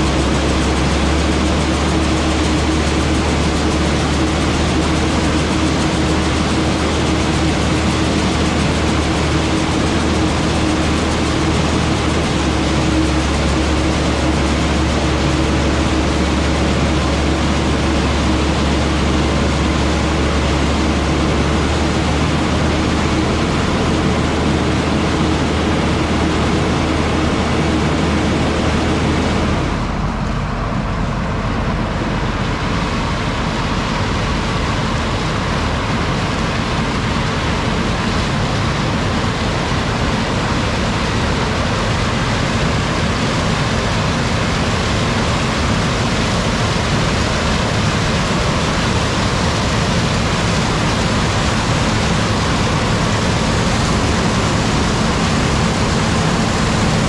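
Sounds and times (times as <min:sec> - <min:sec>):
diesel machinery running under load: 0:00.0 - 0:57.0.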